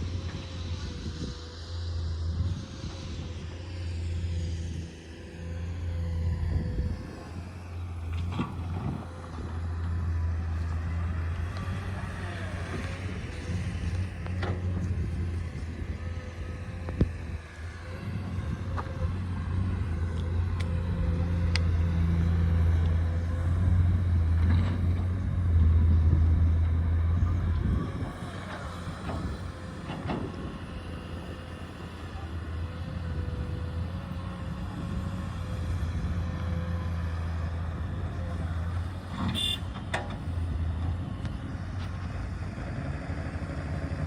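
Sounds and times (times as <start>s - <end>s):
diesel engine humming: 0.0s - 44.0s.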